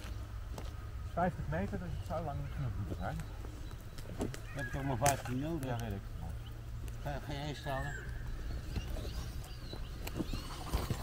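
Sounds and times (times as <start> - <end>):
footsteps on loose earth: 0.0 - 11.0.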